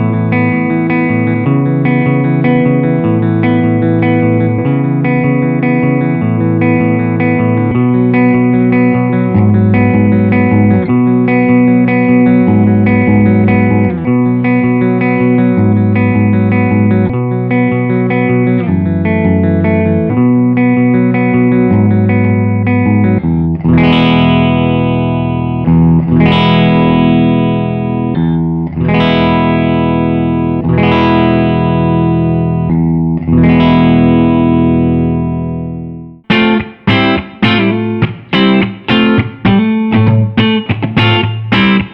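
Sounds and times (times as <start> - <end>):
electric guitar through amplifier: 0.0 - 41.9.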